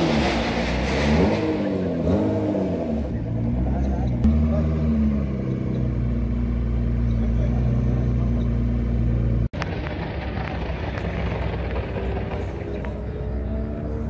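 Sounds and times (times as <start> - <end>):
sports car engines idling: 1.6 - 14.0.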